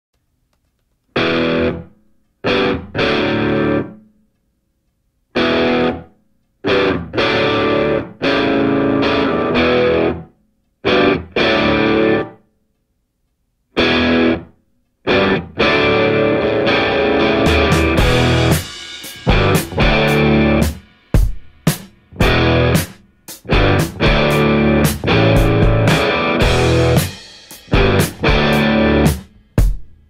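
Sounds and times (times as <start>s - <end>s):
distorted electric guitar chords: 1.2s - 4.0s, 5.4s - 12.4s, 13.8s - 20.9s, 22.1s - 29.8s.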